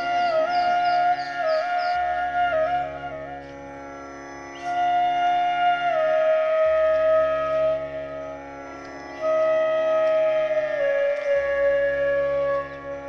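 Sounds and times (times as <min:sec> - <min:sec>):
flute-like melody: 0:00.0 - 0:13.0
steady drone: 0:00.0 - 0:13.0.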